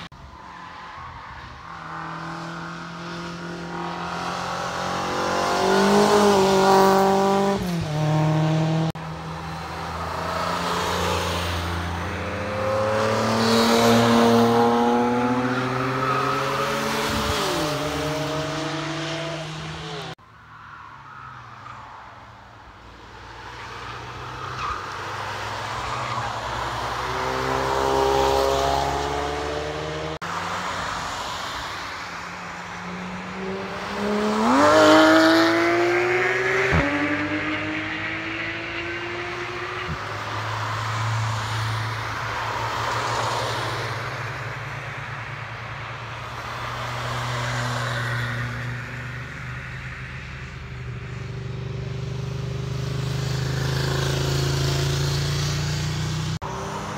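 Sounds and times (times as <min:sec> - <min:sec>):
race cars passing: 0:00.0 - 0:56.9.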